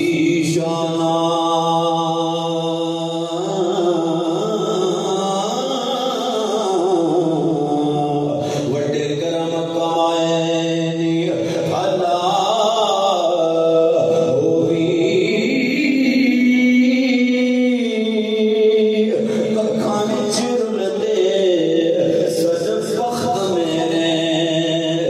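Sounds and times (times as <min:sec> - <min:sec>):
man singing into a microphone: 0:00.0 - 0:25.0.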